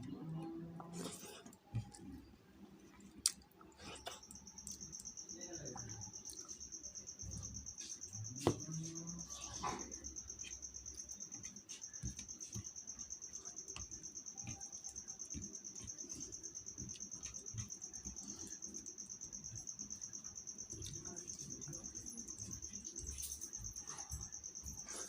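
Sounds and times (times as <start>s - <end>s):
cricket chirping: 3.2s - 25.0s.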